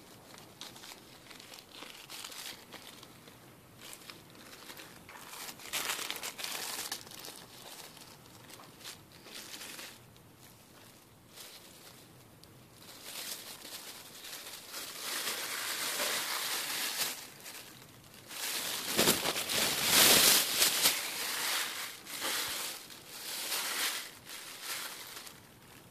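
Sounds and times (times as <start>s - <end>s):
plastic bag crinkling: 0.0s - 25.9s.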